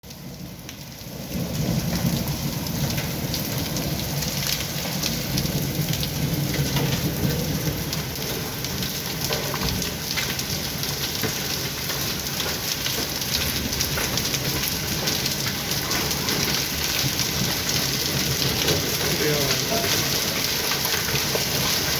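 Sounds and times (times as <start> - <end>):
heavy rain splashing: 0.0 - 21.9.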